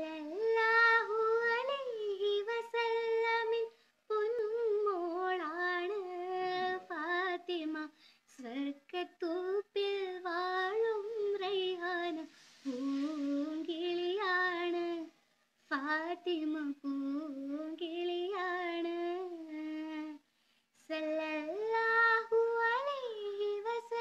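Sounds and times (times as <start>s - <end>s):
girl singing unaccompanied: 0.0s - 24.0s.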